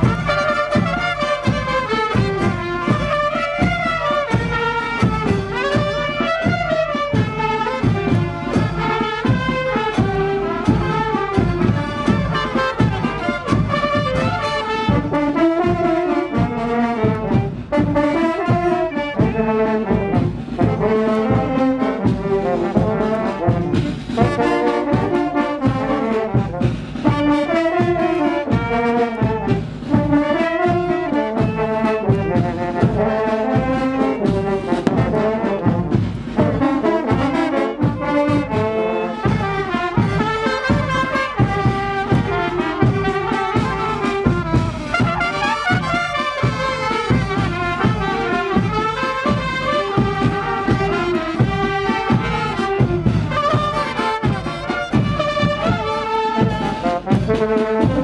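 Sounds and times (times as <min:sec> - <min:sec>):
brass band playing dance tune: 0:00.0 - 0:58.0
steady drum beat: 0:00.0 - 0:58.0.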